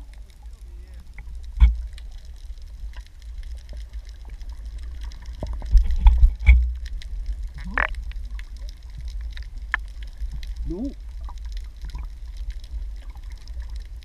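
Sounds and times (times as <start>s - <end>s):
underwater rumble of moving water: 0.0s - 14.0s.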